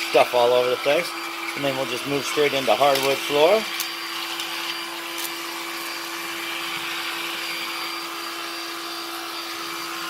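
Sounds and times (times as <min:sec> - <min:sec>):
stick vacuum running: 0:00.0 - 0:10.0.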